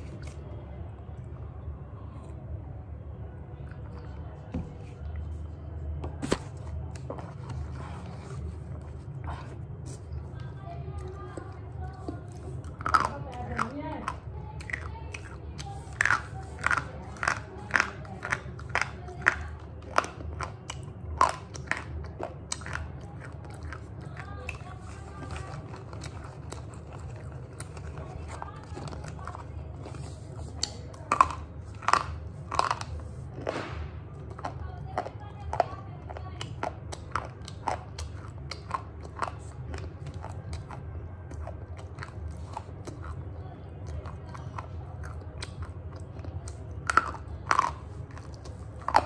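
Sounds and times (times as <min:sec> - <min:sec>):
low steady hum: 0:00.0 - 0:49.0
slate pencil being chewed: 0:06.9 - 0:33.5, 0:34.3 - 0:49.0.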